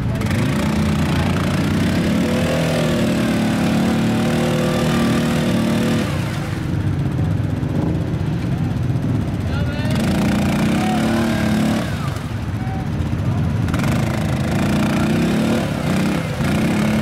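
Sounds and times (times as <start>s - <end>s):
atv engine revving under load: 0.0s - 17.0s.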